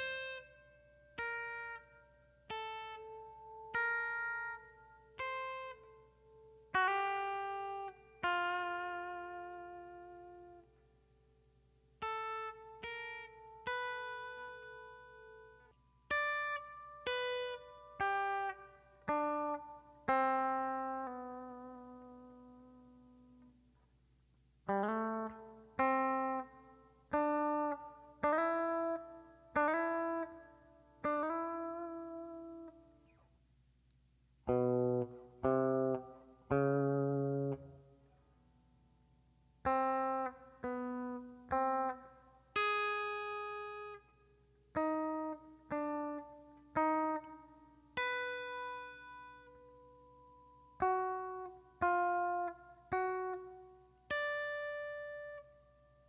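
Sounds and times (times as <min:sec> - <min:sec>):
electric guitar slow solo melody: 0:00.0 - 0:10.9, 0:12.0 - 0:23.6, 0:24.7 - 0:33.3, 0:34.4 - 0:38.6, 0:39.6 - 0:56.0.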